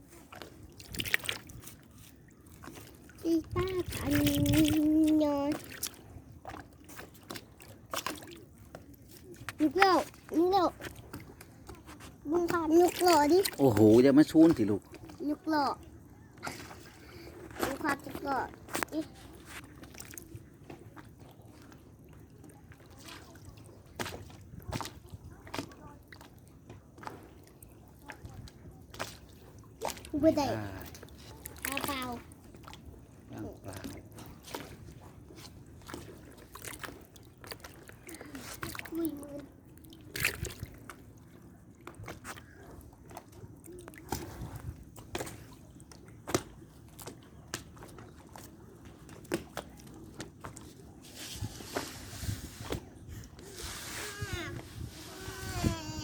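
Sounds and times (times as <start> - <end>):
water dripping and sloshing: 0.0 - 56.0.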